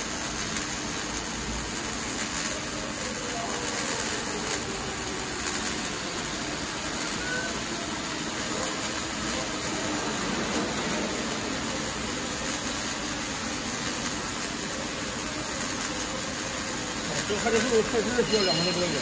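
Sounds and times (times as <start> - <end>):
welding arc hissing: 0.0 - 19.0.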